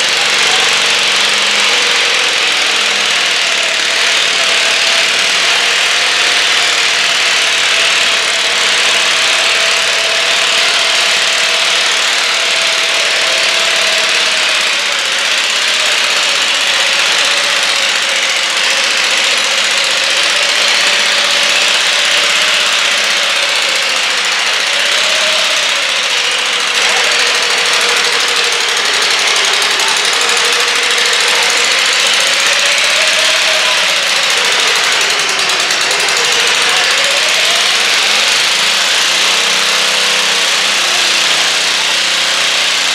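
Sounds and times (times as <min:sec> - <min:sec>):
tractor engine running under load: 0:00.0 - 0:42.9.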